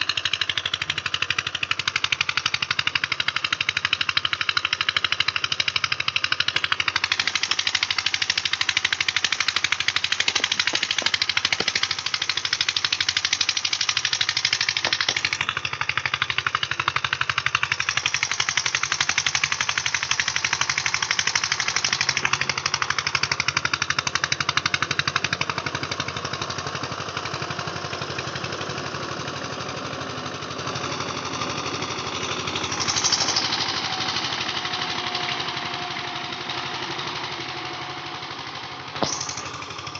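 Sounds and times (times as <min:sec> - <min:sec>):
tractor diesel engine knocking: 0:00.0 - 0:39.9.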